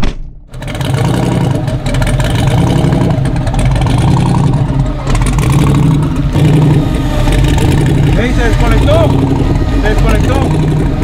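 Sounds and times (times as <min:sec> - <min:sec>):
truck engine revving hard: 0:00.5 - 0:11.0.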